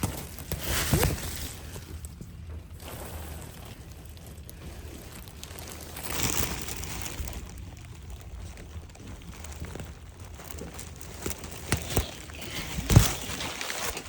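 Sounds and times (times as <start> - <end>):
low steady rumble: 0.0 - 14.0
rustling and crinkling: 0.0 - 14.0.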